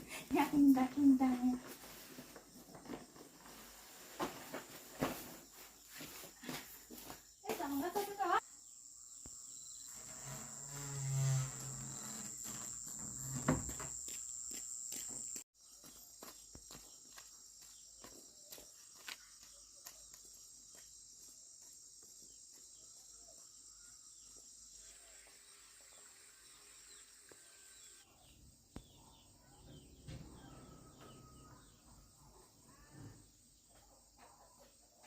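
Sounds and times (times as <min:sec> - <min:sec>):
insects chirring: 0:00.4 - 0:29.2.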